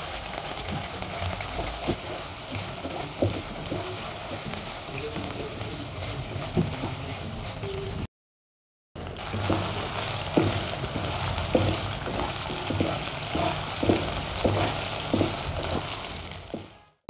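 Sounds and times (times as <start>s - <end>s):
wooden spatula scraping a pan: 0.0s - 8.0s, 9.2s - 16.9s
chicken sizzling in hot oil: 0.0s - 8.1s, 9.0s - 17.0s.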